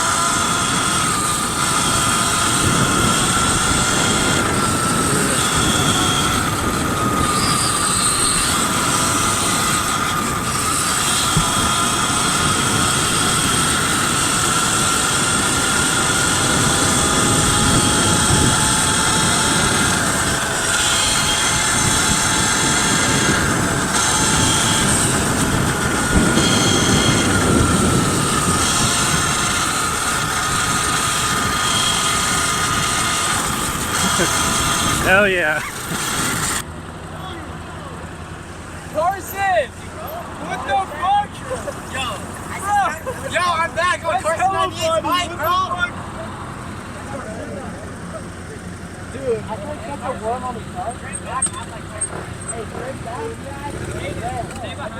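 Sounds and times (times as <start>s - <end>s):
electric bike motors whining: 0.0s - 54.9s
wind: 0.0s - 54.9s.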